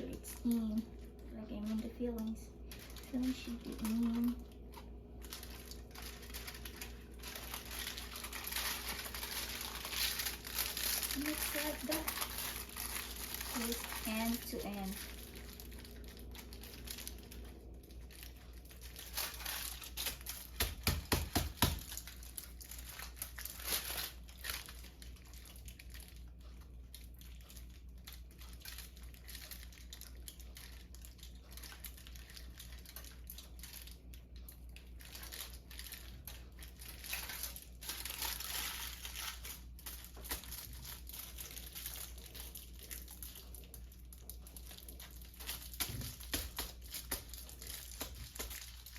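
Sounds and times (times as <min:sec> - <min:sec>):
wrapper crinkling: 0:00.0 - 0:48.9.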